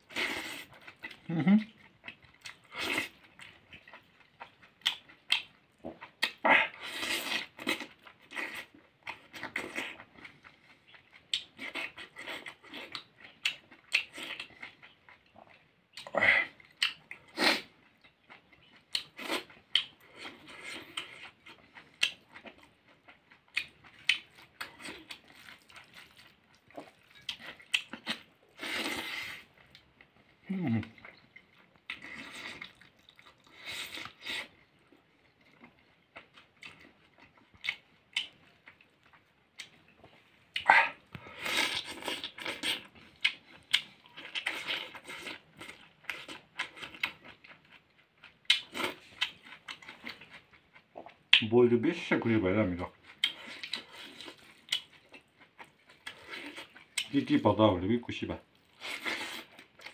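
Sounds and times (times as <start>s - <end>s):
man chewing food: 0.0s - 57.6s, 58.2s - 59.9s.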